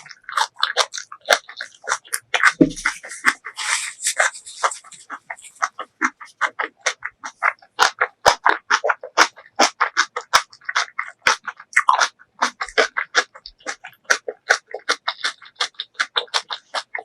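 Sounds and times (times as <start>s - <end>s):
wet chewing mouth clicks: 0.0s - 17.0s.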